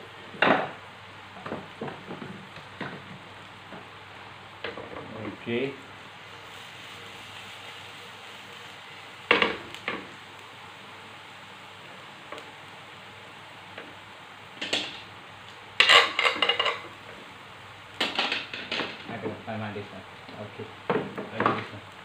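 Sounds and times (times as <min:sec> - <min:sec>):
garlic and onion sizzling in a pan: 0:00.0 - 0:22.0.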